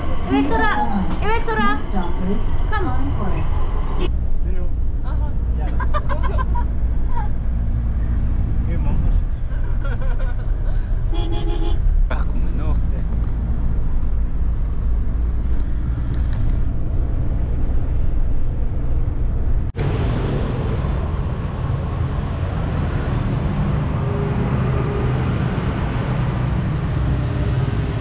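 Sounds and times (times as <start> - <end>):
city street traffic: 0.0 - 28.0
minibus engine and road rumble: 0.0 - 28.0.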